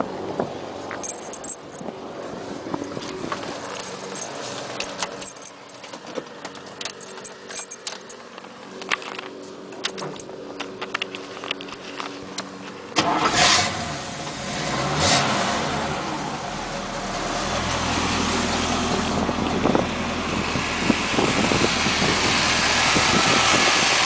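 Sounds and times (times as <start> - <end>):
car engine cranking and starting: 0.5 - 24.0.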